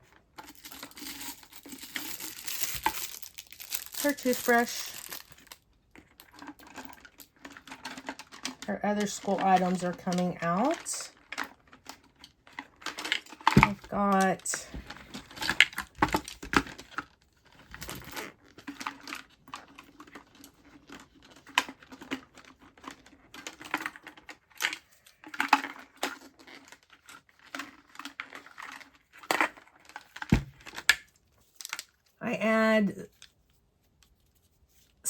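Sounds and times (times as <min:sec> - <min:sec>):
pencils clicking and rustling: 0:00.0 - 0:35.0.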